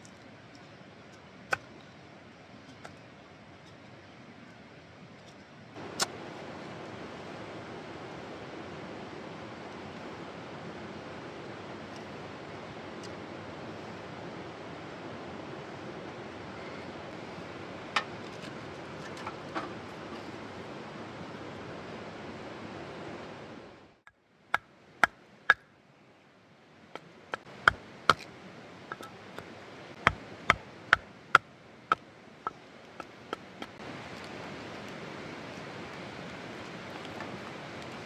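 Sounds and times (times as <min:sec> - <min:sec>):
river water rushing: 0:05.8 - 0:25.7, 0:26.4 - 0:38.0.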